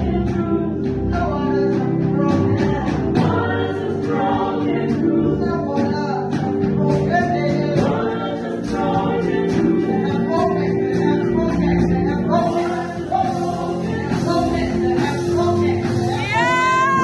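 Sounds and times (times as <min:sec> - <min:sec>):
person singing: 0:00.0 - 0:17.0
sustained keyboard and bass: 0:00.0 - 0:17.0.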